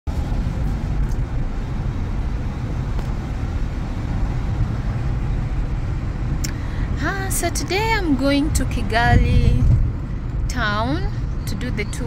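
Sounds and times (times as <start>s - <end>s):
car driving rumble: 0.1s - 12.0s.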